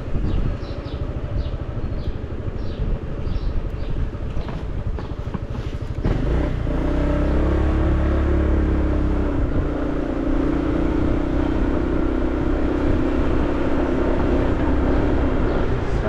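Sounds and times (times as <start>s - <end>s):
car engine: 0.0s - 16.0s
road noise inside car: 0.0s - 16.0s.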